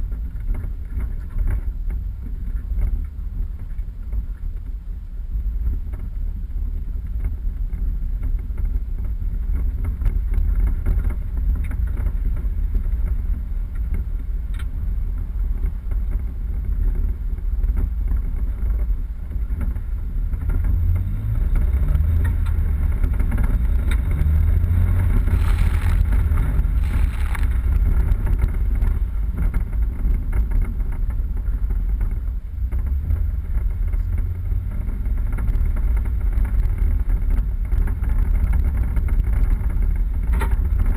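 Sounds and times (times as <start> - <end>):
vehicle engine and tyres rumbling: 0.0 - 40.9
wind buffeting microphone: 0.0 - 40.9.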